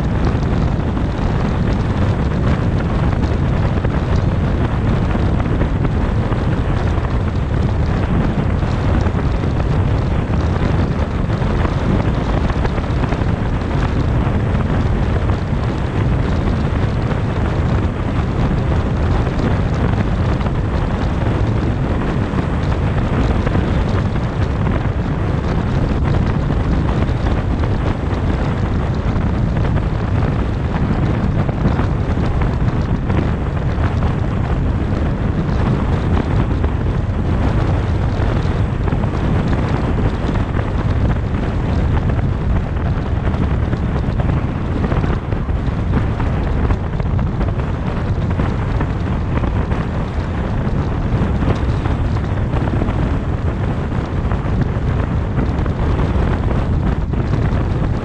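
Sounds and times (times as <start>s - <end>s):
tyre and road noise: 0.0s - 58.0s
wind buffeting microphone: 0.0s - 58.0s.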